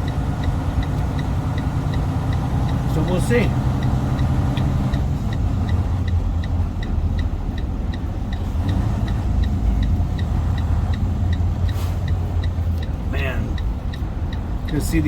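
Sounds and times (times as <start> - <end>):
truck diesel engine humming: 0.0 - 15.0
turn signal ticking: 0.0 - 15.0.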